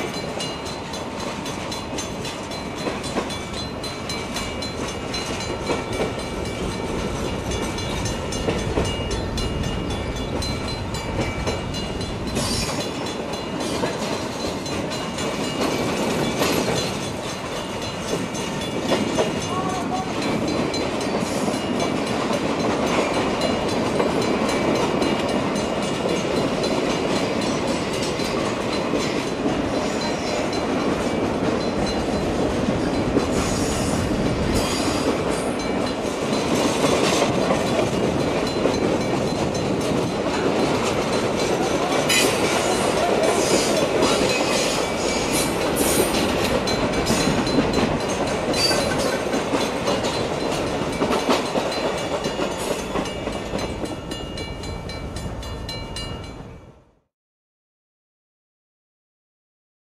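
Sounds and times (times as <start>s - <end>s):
train wheels rumbling on rails: 0.0s - 56.6s.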